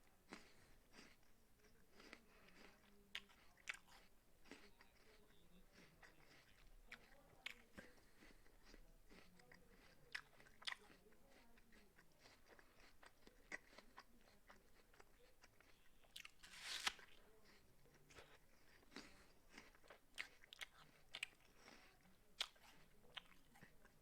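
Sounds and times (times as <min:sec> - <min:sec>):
crunching apple: 0:00.3 - 0:23.7.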